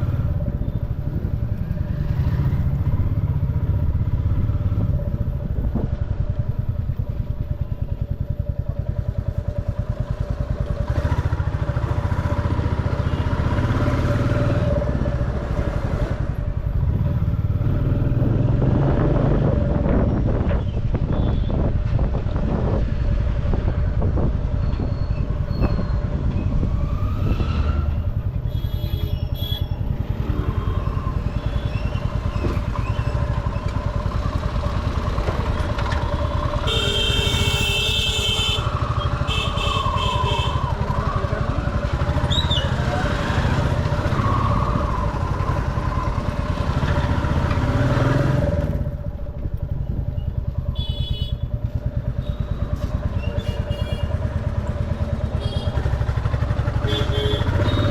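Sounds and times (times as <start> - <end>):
motorcycle engine running: 0.0 - 57.9
street traffic: 0.0 - 57.9.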